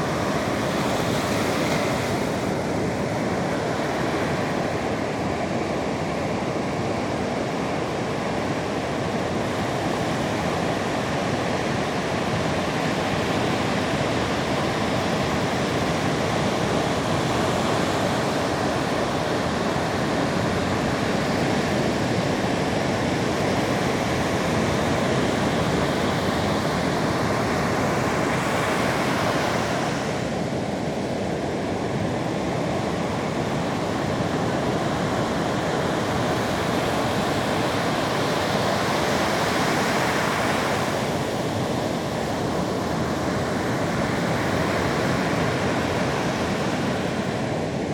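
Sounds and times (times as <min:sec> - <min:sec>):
sea surf rushing on shore: 0:00.0 - 0:47.9.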